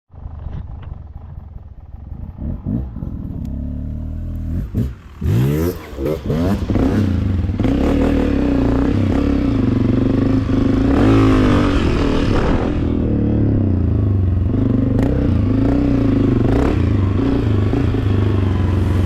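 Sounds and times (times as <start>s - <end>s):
dirt bike engine idling and revving: 0.1s - 19.0s.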